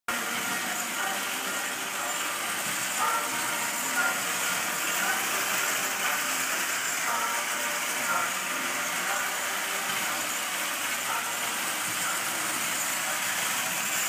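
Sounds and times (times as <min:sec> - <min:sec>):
toy electric train running: 0:00.1 - 0:14.0.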